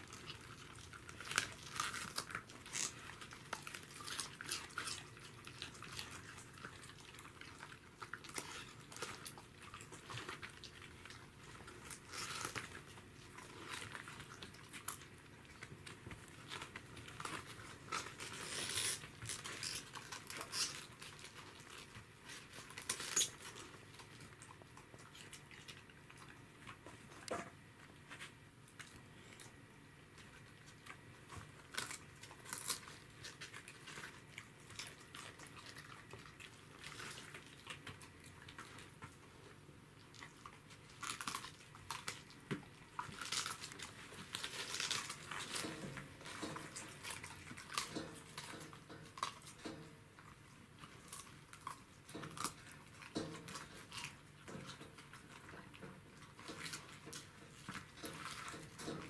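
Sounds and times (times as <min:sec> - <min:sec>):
dogs chewing: 0:00.0 - 0:59.0
dogs crunching cabbage leaves: 0:00.0 - 0:59.0.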